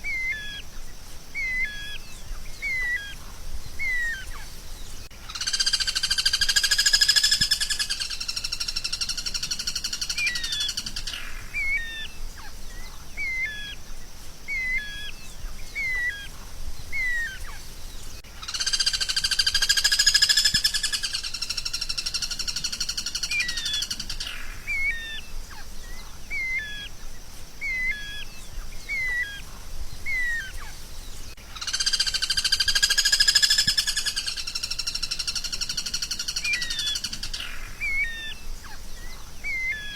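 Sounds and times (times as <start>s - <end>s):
songbird buzzy trill: 0.0s - 39.9s.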